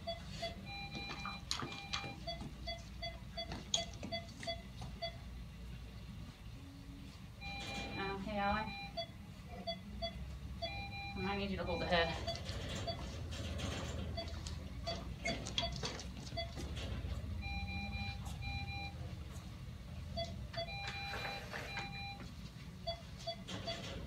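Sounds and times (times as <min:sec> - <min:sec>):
monitor alarm tones: 0:00.0 - 0:05.2, 0:07.4 - 0:19.2, 0:20.2 - 0:24.0
patient monitor beeping: 0:00.0 - 0:05.3, 0:07.4 - 0:24.0.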